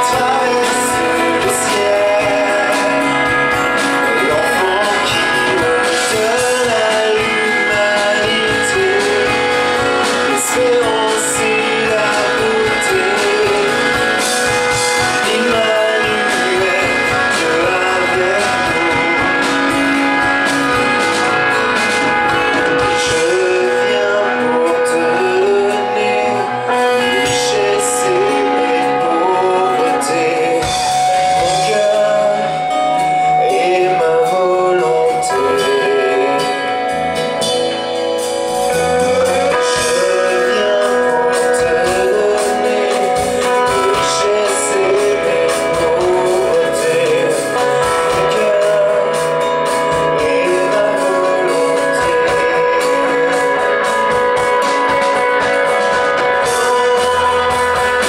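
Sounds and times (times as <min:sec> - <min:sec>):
drum kit: 0:00.0 - 0:58.0
electric guitars: 0:00.0 - 0:58.0
man singing lead vocals: 0:00.0 - 0:58.0.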